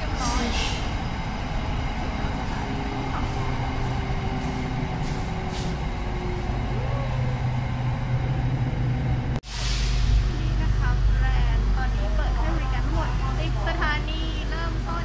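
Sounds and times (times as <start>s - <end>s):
train cabin running noise: 0.0s - 15.0s.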